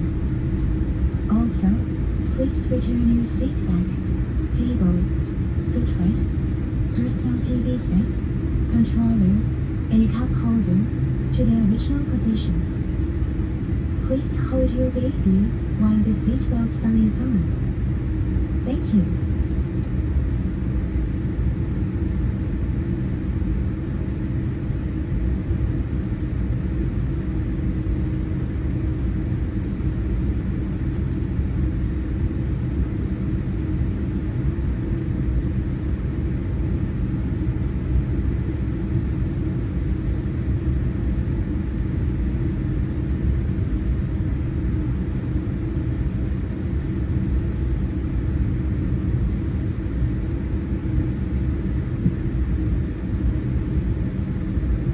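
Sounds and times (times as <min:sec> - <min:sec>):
airliner cabin engine rumble: 0:00.0 - 0:54.9.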